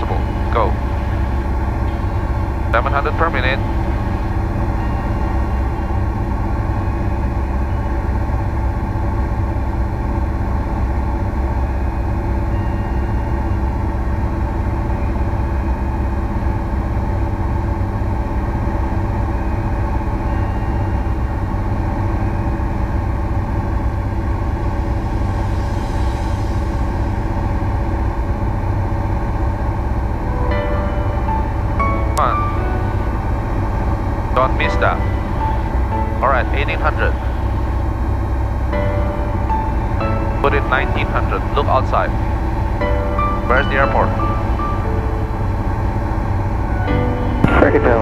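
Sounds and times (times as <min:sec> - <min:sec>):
aircraft engine and propeller droning: 0:00.0 - 0:48.0.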